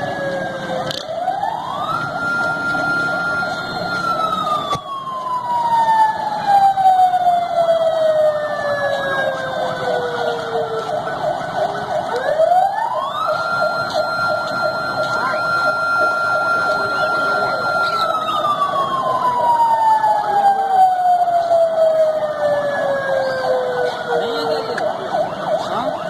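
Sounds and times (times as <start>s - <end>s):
police siren: 0.0s - 26.0s.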